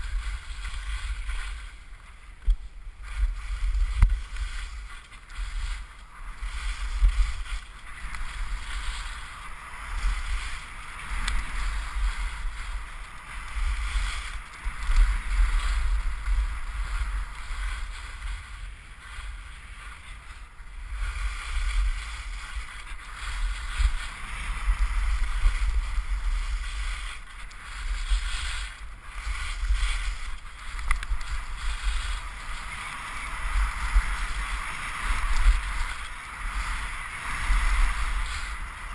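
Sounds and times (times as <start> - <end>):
skis scraping on snow: 0.0 - 38.9
wind rumble on microphone: 0.0 - 38.9.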